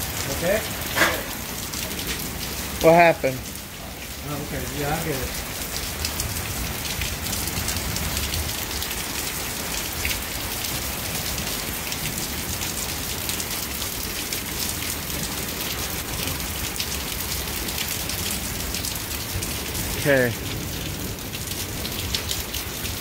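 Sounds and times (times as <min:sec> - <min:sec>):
raindrops ticking: 0:00.0 - 0:23.0
steady rain: 0:00.0 - 0:23.0.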